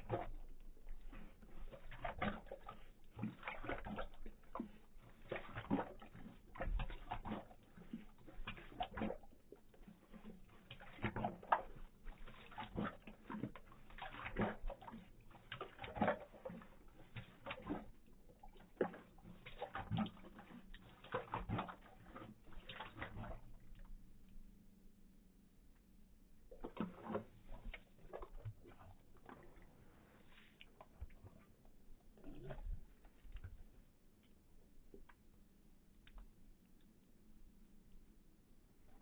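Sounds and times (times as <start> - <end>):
dog lapping water: 0.0 - 24.5, 26.4 - 35.2.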